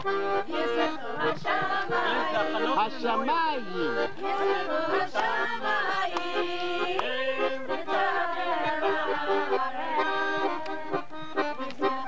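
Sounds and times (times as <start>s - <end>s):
accordion playing: 0.0s - 12.0s
group of voices singing: 0.1s - 11.2s.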